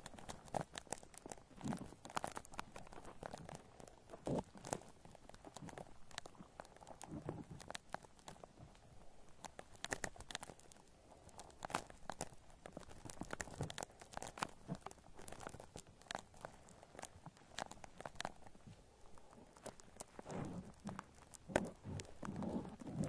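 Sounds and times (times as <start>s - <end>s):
shaving foam crackling and popping: 0.0s - 23.0s.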